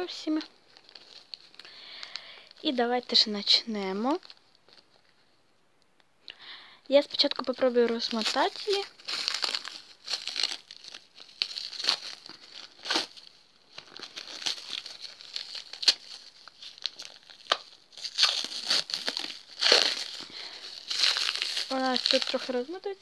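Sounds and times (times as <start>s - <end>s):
wrapping crinkling and tearing: 0.0s - 5.2s, 6.9s - 23.0s.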